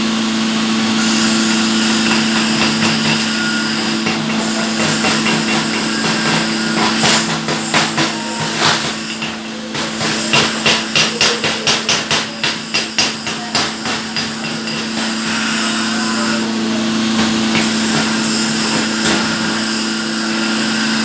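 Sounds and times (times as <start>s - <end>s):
low machine hum: 0.0s - 21.0s
hammer chipping metal slag: 1.2s - 16.2s, 17.0s - 20.4s.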